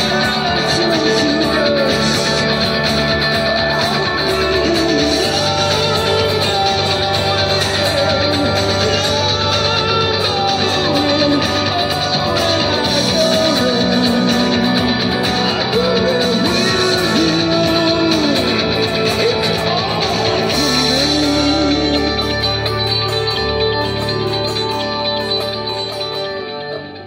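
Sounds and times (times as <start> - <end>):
electric guitar: 0.0 - 27.0
recorded rock song: 0.0 - 27.0.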